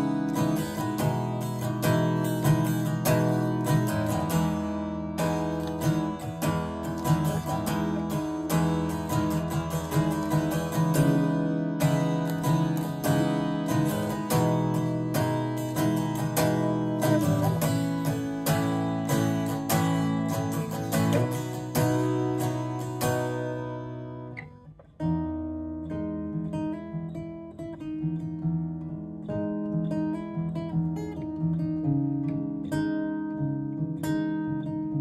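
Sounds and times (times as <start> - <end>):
acoustic guitar playing: 0.0 - 35.0.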